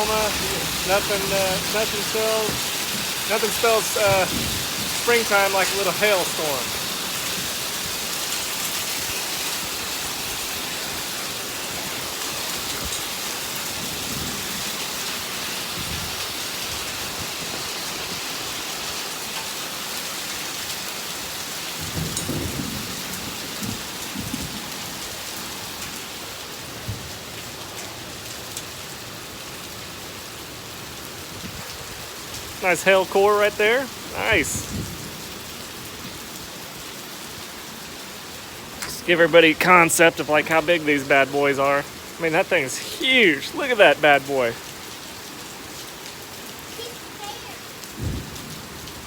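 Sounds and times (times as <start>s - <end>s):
hail and rain falling: 0.0s - 49.0s.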